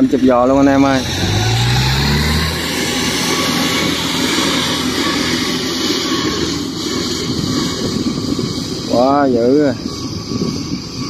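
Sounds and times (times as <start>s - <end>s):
harvester engine running: 0.0s - 11.0s
steady rushing noise: 0.0s - 11.0s.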